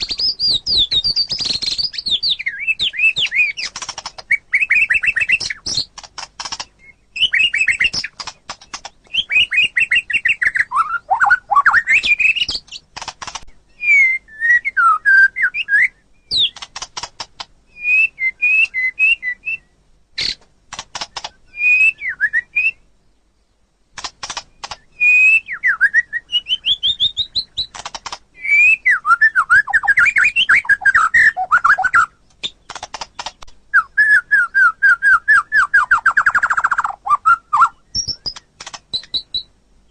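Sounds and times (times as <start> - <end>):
songbird whistling and trilling: 0.0 - 6.0, 6.6 - 12.9, 13.5 - 16.6, 17.7 - 20.4, 21.2 - 22.9, 24.6 - 27.8, 28.4 - 39.6.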